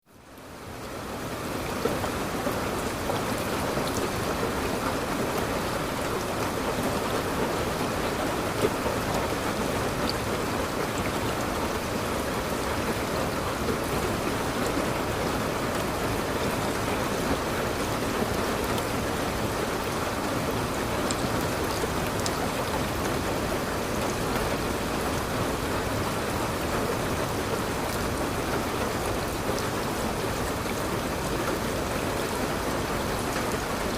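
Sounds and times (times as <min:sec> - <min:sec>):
rain pattering: 0:00.1 - 0:33.9.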